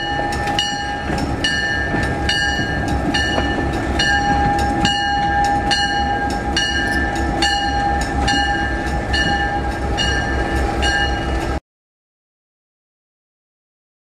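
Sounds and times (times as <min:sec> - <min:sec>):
diesel locomotive engine running: 0:00.0 - 0:11.6
locomotive bell ringing: 0:00.0 - 0:11.6.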